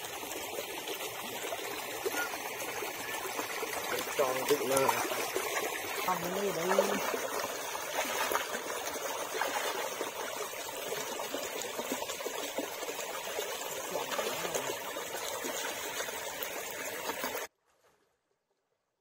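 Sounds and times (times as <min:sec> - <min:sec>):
water trickling in a stream: 0:00.0 - 0:17.5.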